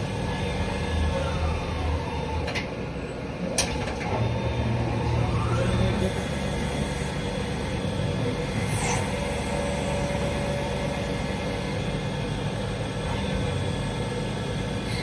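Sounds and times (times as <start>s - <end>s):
machine whine: 0.0s - 15.0s
motor hum: 0.0s - 15.0s.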